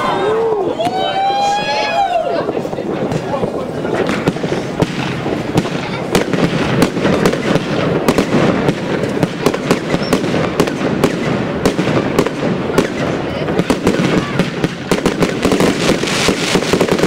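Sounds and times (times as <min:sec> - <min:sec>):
firework bangs: 0:00.0 - 0:17.0
firework crackle: 0:00.0 - 0:17.0.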